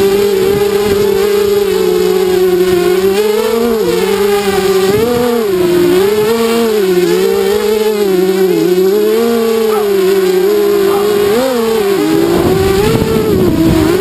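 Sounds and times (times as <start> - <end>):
quadcopter motors buzzing whine: 0.0 - 14.0.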